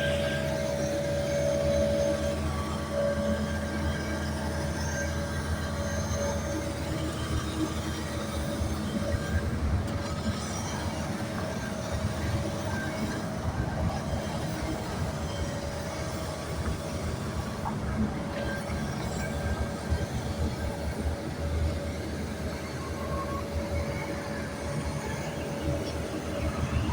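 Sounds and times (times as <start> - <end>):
constant hum: 0.0 - 26.9
large engine rumbling: 0.0 - 26.9.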